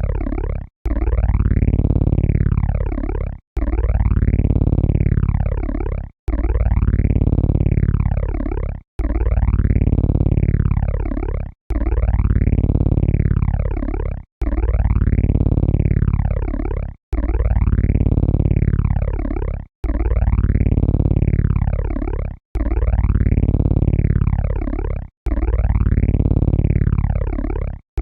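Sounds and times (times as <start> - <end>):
synthesized helicopter rotor pulsing: 0.0 - 28.0.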